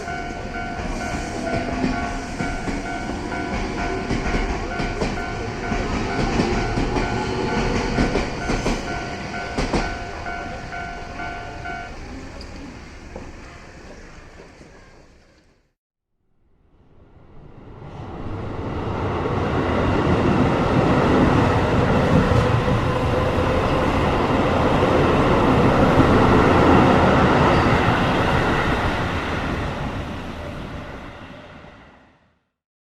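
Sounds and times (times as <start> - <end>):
train passing by: 0.0 - 15.7, 16.7 - 32.3.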